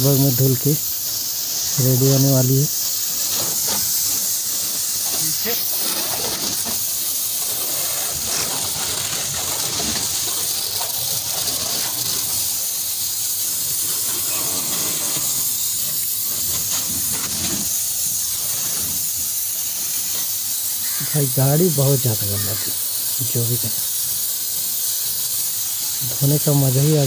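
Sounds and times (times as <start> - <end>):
pressure washer water jet hissing: 0.0 - 27.0.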